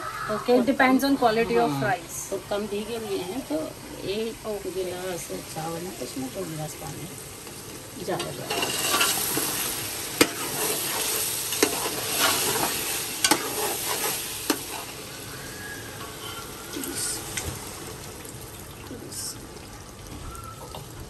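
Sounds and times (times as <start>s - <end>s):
oil sizzling in a pot: 0.0s - 21.0s.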